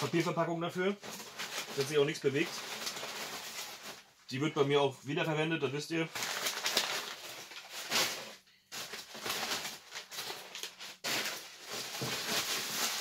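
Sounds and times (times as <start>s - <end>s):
packing paper rustling: 0.0s - 4.2s, 6.1s - 13.0s.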